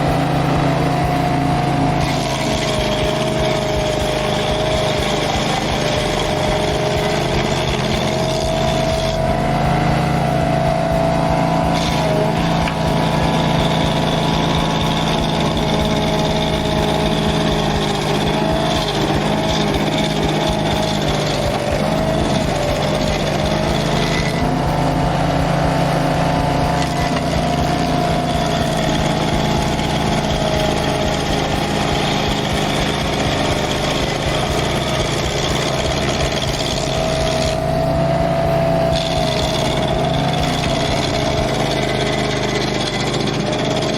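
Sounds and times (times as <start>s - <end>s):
cutter wheel grinding stump: 0.0s - 43.9s
stump grinder engine running: 0.0s - 43.9s.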